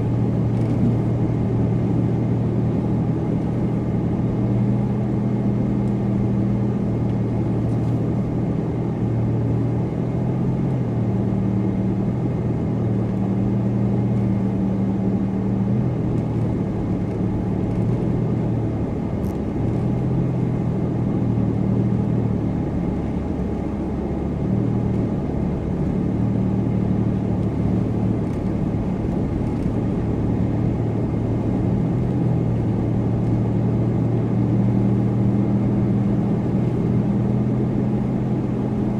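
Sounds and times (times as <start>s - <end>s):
car engine: 0.0s - 38.9s
tyre and road rumble: 0.0s - 38.9s.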